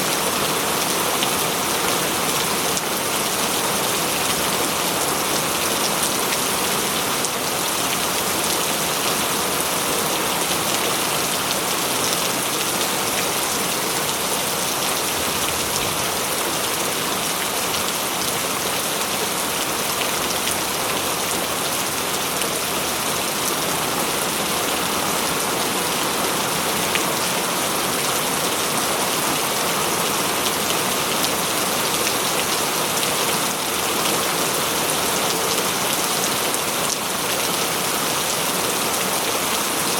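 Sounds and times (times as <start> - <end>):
rain on leaves and ground: 0.0 - 39.9.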